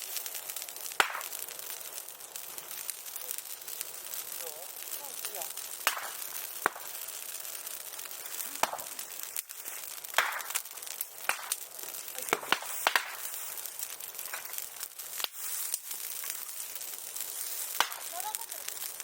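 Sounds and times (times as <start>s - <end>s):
bonfire crackling: 0.0s - 19.0s
steady hiss: 0.0s - 19.0s.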